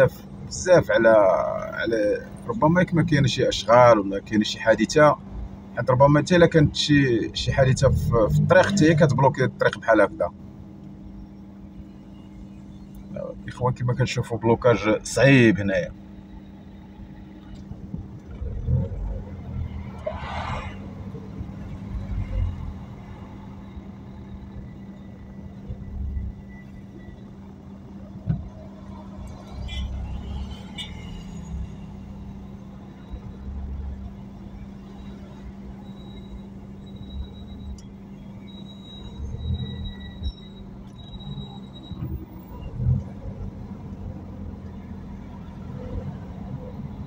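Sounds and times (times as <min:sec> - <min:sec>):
car engines idling: 0:00.0 - 0:47.0
vehicles creeping forward: 0:00.0 - 0:47.0.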